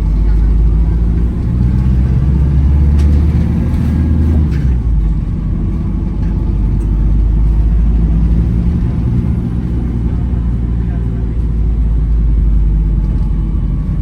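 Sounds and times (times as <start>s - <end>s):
bus engine drone from inside: 0.0s - 14.0s.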